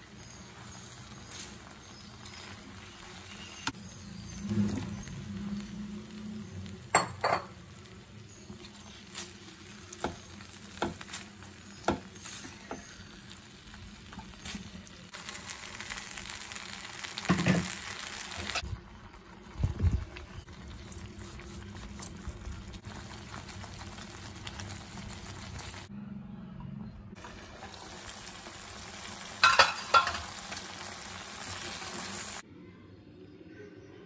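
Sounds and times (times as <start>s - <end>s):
gravy sizzling in a frying pan: 0.0s - 25.9s, 27.2s - 32.4s.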